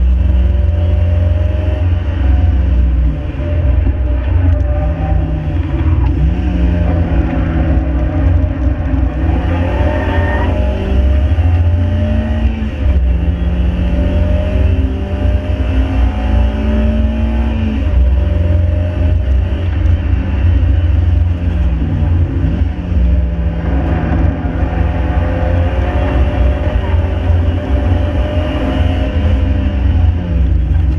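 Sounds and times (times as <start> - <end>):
car engine accelerating hard: 0.0 - 30.9
low road rumble: 0.0 - 30.9.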